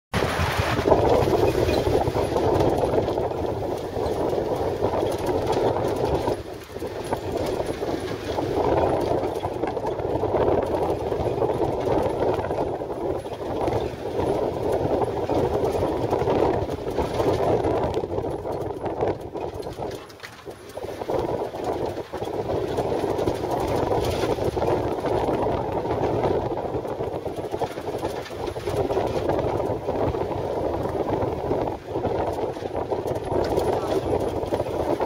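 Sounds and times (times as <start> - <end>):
jeep engine and road rumble: 0.2 - 35.0.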